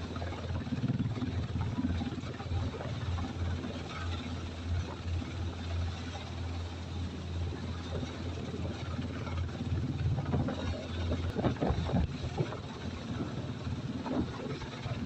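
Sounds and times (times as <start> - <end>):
helicopter rotor and engine drone: 0.0 - 15.0.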